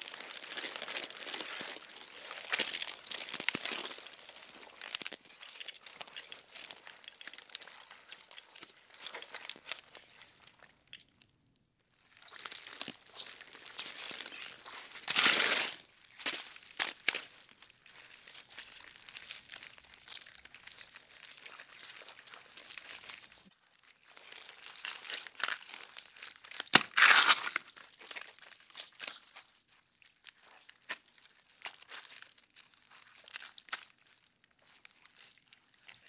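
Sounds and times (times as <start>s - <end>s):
scratchy crinkling and clicking rustles: 0.0s - 11.2s, 12.0s - 36.0s.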